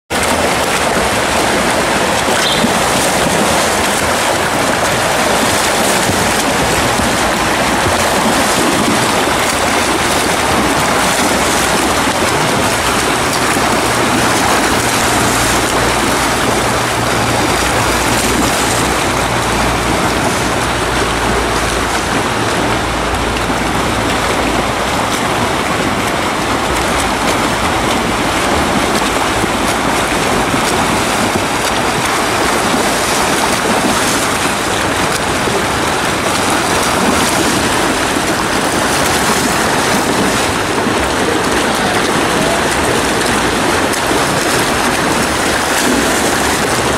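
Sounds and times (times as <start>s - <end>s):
swimmers splashing pool water: 0.1s - 46.9s.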